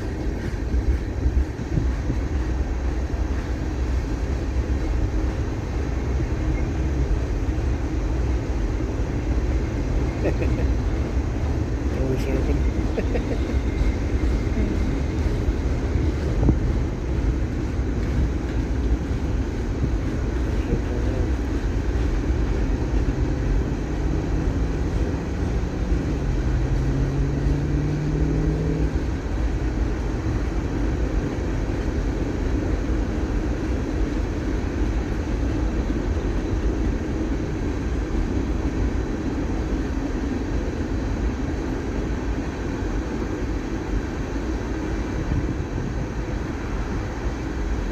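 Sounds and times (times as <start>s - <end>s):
freight train rumbling: 0.0s - 47.9s.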